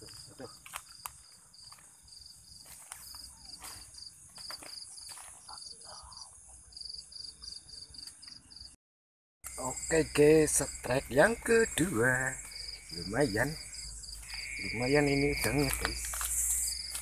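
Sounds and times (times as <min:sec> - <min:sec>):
crickets chirping: 0:00.0 - 0:08.8, 0:09.5 - 0:17.0.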